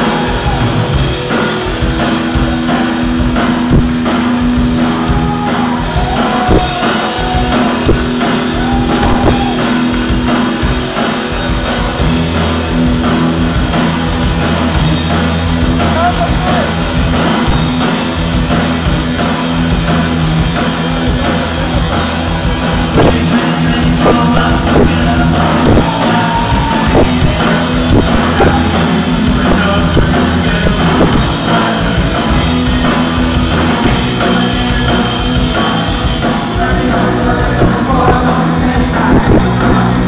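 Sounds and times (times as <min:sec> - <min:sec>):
bass guitar: 0:00.0 - 0:40.0
drum kit: 0:00.0 - 0:40.0
electric guitars: 0:00.0 - 0:40.0.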